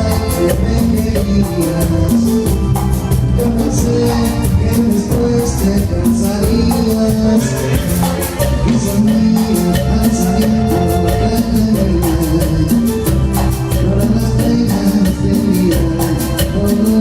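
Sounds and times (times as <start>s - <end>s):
band playing cumbia: 0.0s - 17.0s
bass line: 0.0s - 17.0s
high percussion strokes: 0.0s - 17.0s.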